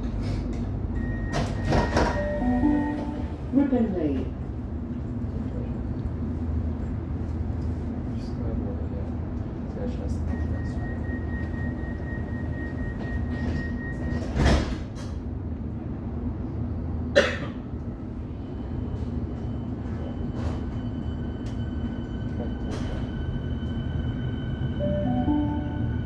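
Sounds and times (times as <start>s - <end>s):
train carriage rumble: 0.0s - 26.0s.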